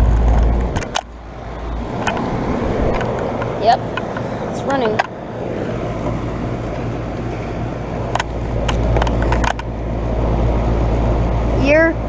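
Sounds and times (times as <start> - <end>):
compressor hum: 0.0 - 12.0
condenser fan rush: 0.0 - 12.0.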